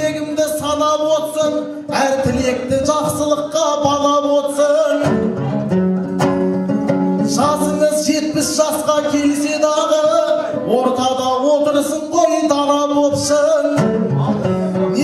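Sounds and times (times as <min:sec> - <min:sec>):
dombra strumming: 0:00.0 - 0:15.0.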